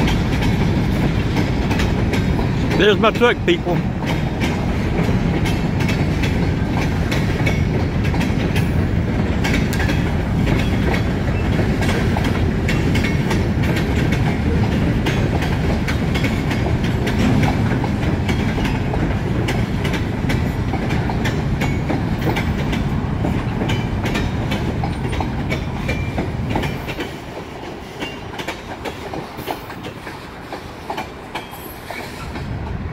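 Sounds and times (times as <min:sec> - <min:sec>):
freight train rumbling: 0:00.0 - 0:32.9
train wheels clicking over rail joints: 0:00.0 - 0:32.9.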